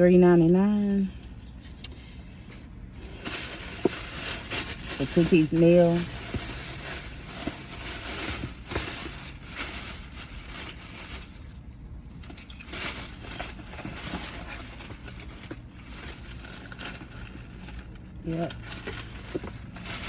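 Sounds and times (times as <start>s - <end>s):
paper packaging crinkling: 0.2s - 20.0s.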